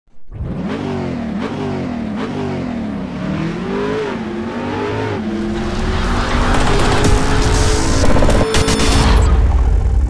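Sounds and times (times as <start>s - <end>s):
engine revving: 0.1s - 10.0s.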